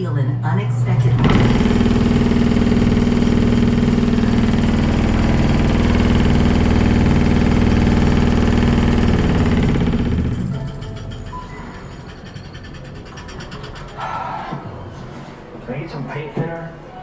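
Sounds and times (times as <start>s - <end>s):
shake simulator motor rumble: 0.0s - 14.0s.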